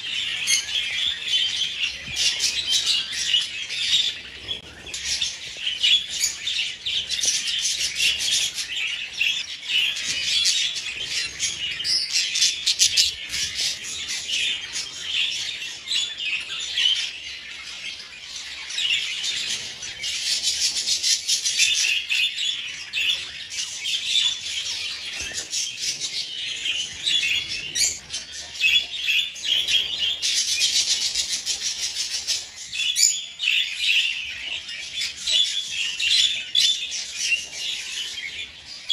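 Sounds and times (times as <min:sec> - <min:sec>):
flock of budgies chattering: 0:00.0 - 0:38.9.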